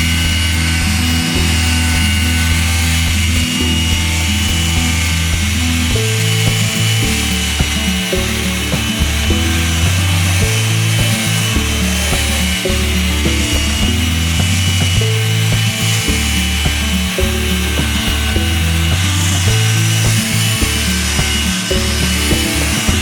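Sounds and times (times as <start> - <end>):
background music with bass line: 0.0 - 23.0.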